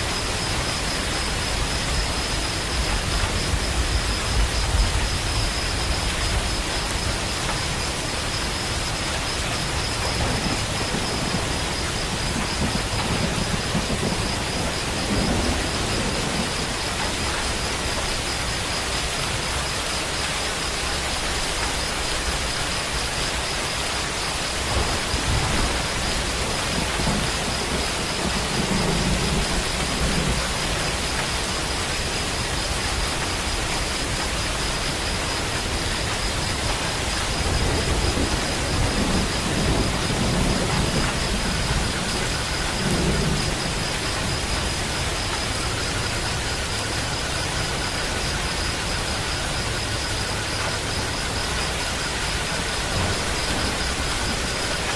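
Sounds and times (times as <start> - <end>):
steady rain falling: 0.0 - 54.9
thunder rumbling: 0.0 - 54.9.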